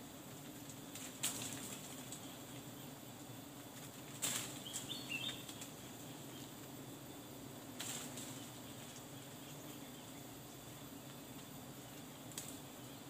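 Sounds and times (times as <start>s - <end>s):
faint hum of bees: 0.0s - 13.0s
leaves and branches rustling: 0.0s - 13.0s.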